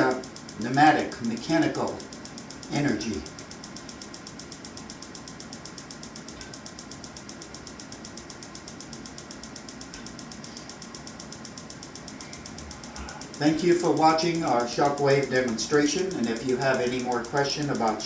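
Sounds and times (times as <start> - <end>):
shockwave applicator rapid pulses: 0.0 - 18.0.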